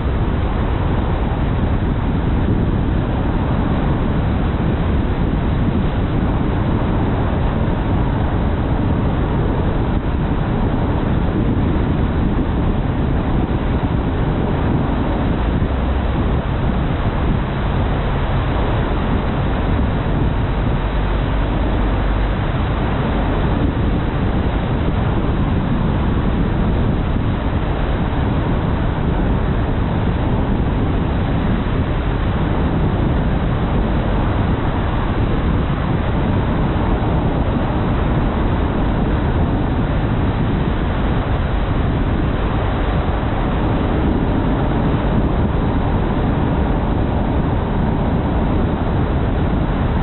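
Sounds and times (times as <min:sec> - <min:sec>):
car road and wind noise: 0:00.0 - 0:50.0.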